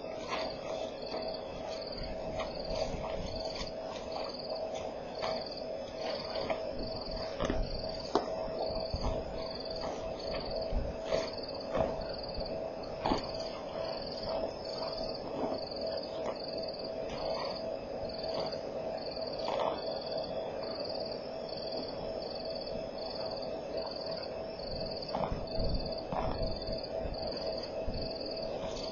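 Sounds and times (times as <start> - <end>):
constant low hum: 0.0 - 28.9
insect chirping: 0.0 - 28.9.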